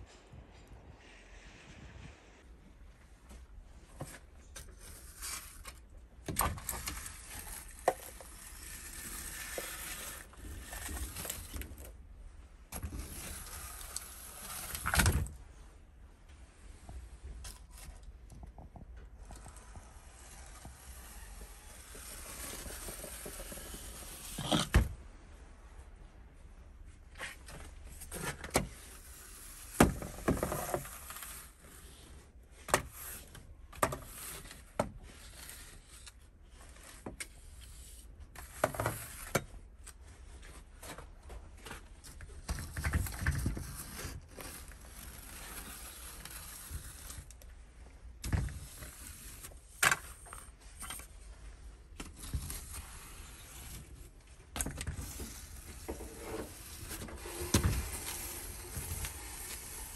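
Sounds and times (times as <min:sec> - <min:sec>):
rustling scrapes: 0:00.0 - 0:59.9.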